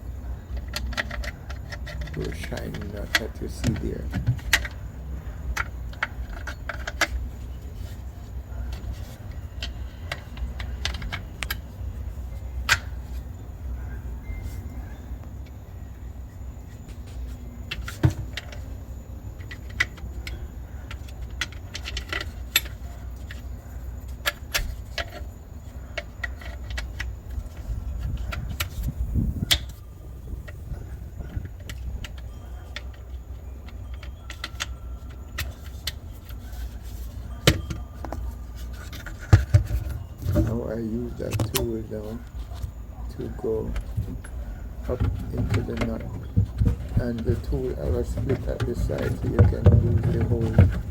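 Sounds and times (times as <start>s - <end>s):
low steady rumble: 0.0s - 50.9s.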